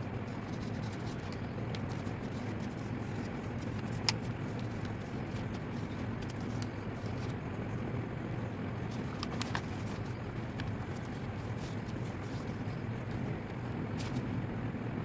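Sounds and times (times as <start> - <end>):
steady low hum: 0.0 - 15.0
paper being handled and folded: 0.2 - 7.5, 8.4 - 14.4.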